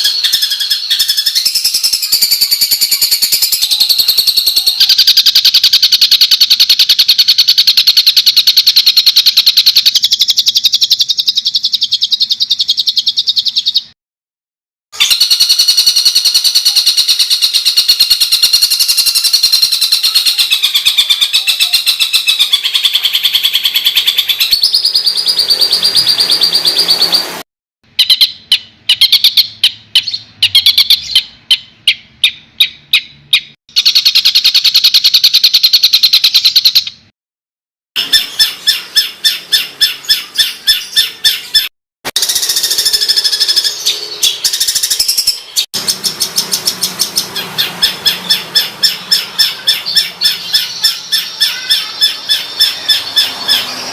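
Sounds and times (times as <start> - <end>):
songbird harsh rattling song: 0.0 - 14.0, 15.0 - 37.1, 38.0 - 53.9.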